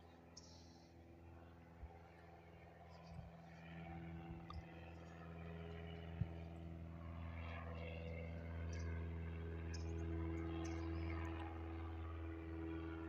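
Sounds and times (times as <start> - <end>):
distant airplane engine drone: 0.0 - 13.0.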